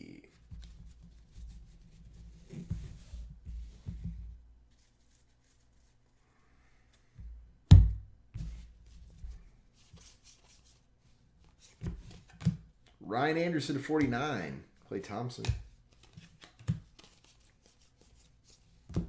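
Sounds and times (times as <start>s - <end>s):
faint rustling and handling noise: 0.2s - 7.5s, 8.3s - 19.0s.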